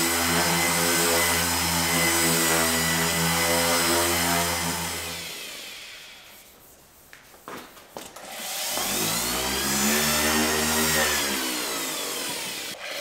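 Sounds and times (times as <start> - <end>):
orbital sander running: 0.0 - 6.5, 8.2 - 13.0.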